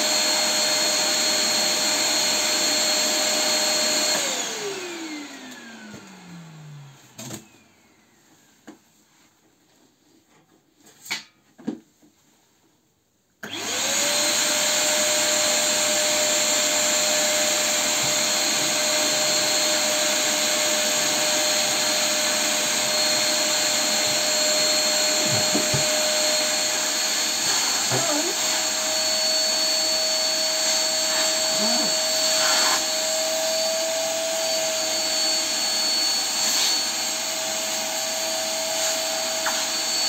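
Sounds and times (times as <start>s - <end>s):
vacuum cleaner motor whine: 0.0s - 8.7s, 13.4s - 40.0s.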